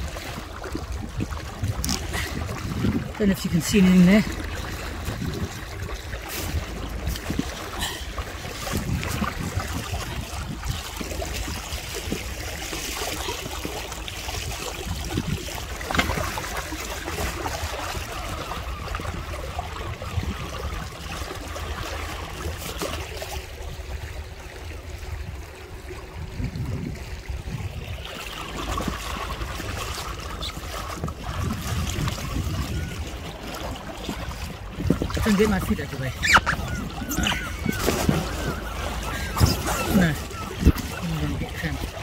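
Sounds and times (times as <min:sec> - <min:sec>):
water splashing against hull: 0:00.0 - 0:42.0.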